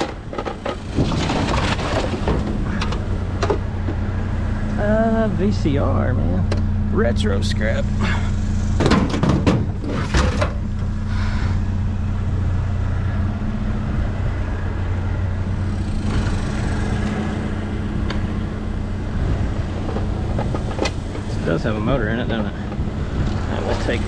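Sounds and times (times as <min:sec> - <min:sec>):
vehicle engine idling: 0:01.8 - 0:24.0.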